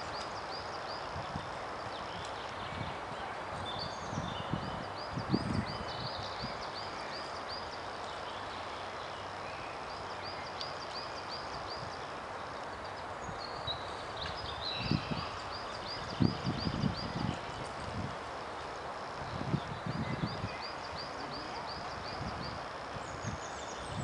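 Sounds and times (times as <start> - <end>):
small songbird singing: 0.0 - 17.9, 19.2 - 24.0
outdoor background hiss: 0.0 - 24.0.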